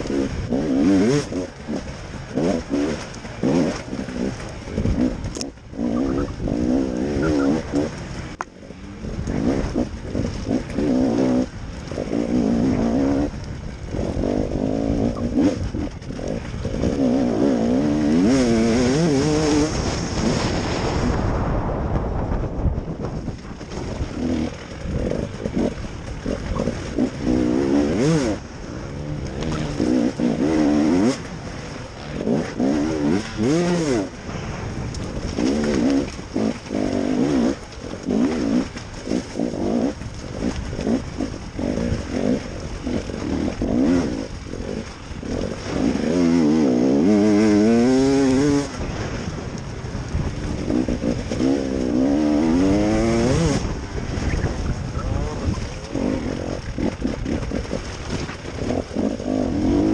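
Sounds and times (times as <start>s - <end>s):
motorcycle engine revving: 0.0s - 21.2s, 23.0s - 59.9s.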